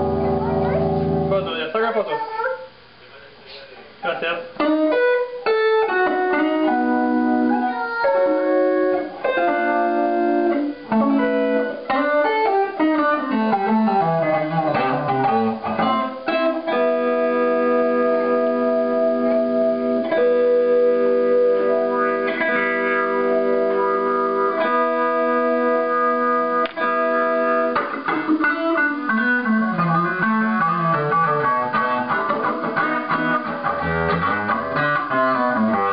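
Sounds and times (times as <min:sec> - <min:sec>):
electric guitar with wah effect: 0:00.0 - 0:01.6, 0:04.4 - 0:35.9.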